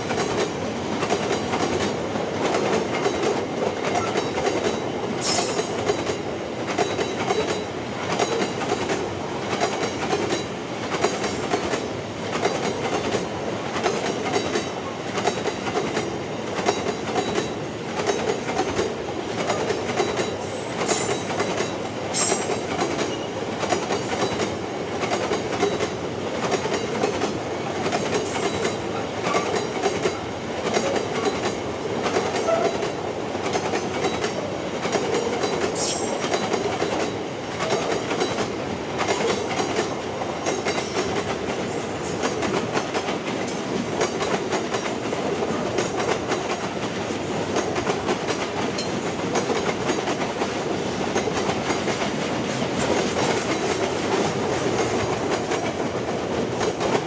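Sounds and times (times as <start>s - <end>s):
train wheels rumbling and clattering: 0.0s - 57.0s.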